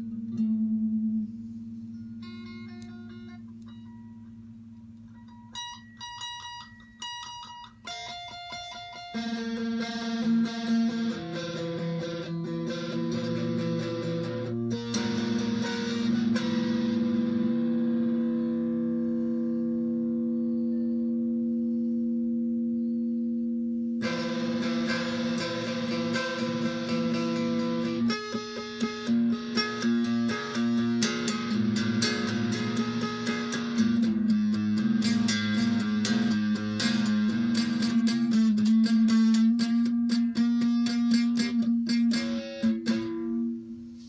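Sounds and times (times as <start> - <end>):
electric guitar with effects: 0.0 - 44.0.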